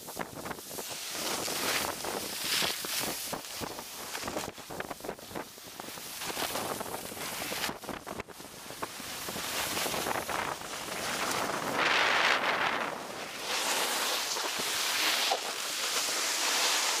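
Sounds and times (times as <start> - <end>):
skis scraping over snow: 0.0 - 17.0
wind rushing over microphone: 0.0 - 17.0.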